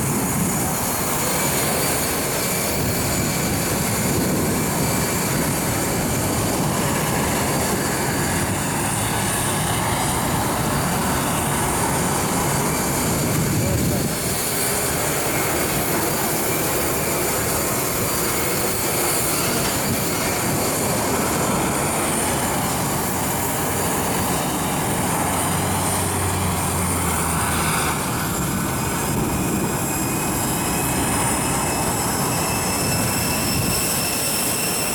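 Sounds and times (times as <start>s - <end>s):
high-pitched engine whines: 0.0s - 34.9s
jet engines roaring: 0.0s - 34.9s.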